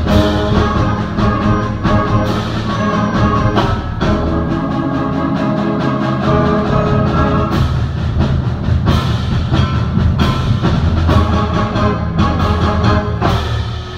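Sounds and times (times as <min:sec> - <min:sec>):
concert band playing loudly: 0:00.0 - 0:13.9
timpani and drum hits: 0:00.0 - 0:13.9.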